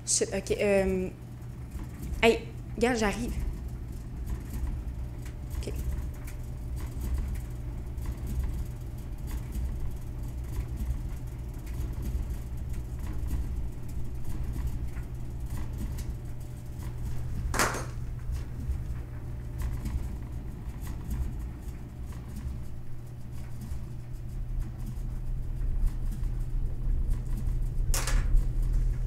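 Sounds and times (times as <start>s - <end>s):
low room rumble: 0.0s - 29.0s.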